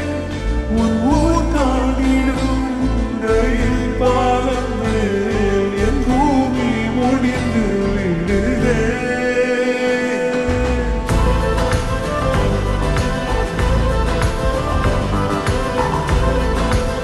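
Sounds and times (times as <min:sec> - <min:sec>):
deep bass: 0:00.0 - 0:09.2, 0:10.5 - 0:17.0.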